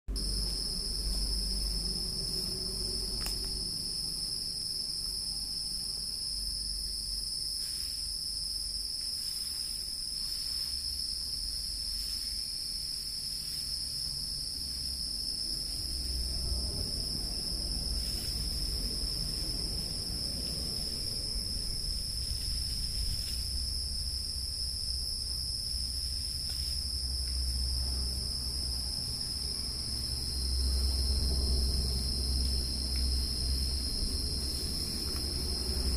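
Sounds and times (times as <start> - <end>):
low rumble: 0.1 - 7.1, 14.1 - 35.9
insects droning: 0.1 - 35.9.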